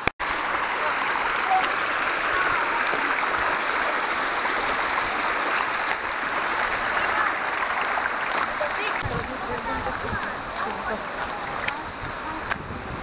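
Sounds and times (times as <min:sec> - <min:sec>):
stream splashing over rocks: 0:00.0 - 0:13.0.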